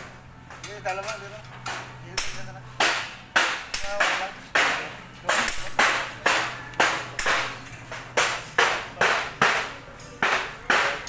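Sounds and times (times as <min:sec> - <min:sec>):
hammer striking metal: 0:01.6 - 0:11.0.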